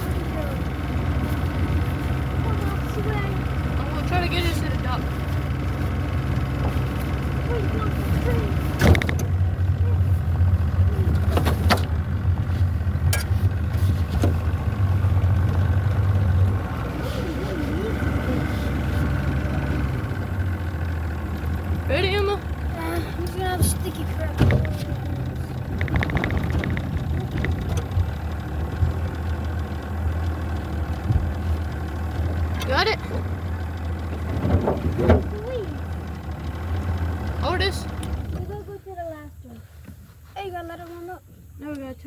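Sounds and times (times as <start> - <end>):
boat motor humming: 0.0 - 42.0.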